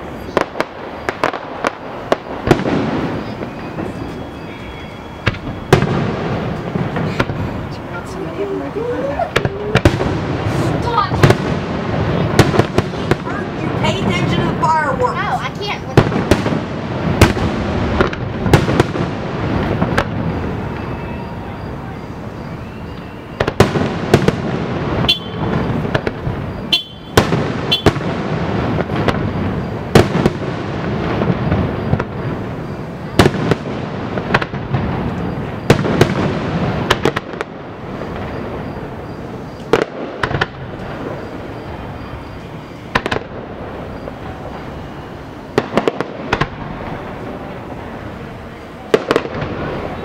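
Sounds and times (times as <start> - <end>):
firework shells bursting: 0.0 - 21.4, 22.9 - 50.0
continuous firework rumble: 0.0 - 50.0.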